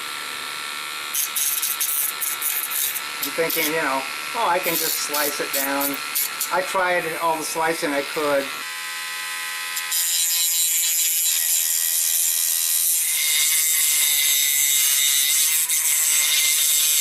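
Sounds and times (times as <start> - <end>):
rotary tool motor whine: 0.0 - 17.0
rotary tool grinding plastic: 1.1 - 17.0.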